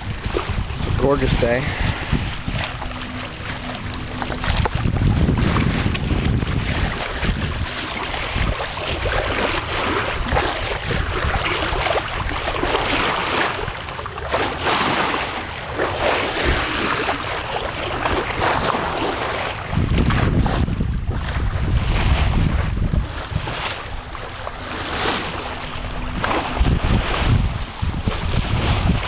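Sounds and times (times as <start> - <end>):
wind rumble on microphone: 0.0 - 13.8, 15.7 - 29.0
water rushing along a hull: 0.0 - 29.0.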